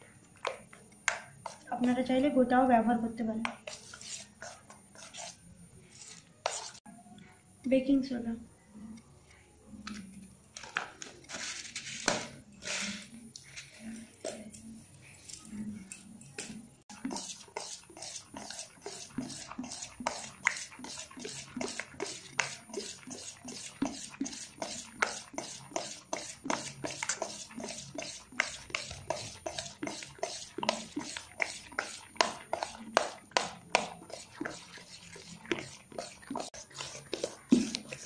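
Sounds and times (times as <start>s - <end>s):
spoon beating batter in steel bowl: 0.2s - 6.8s, 10.6s - 38.0s.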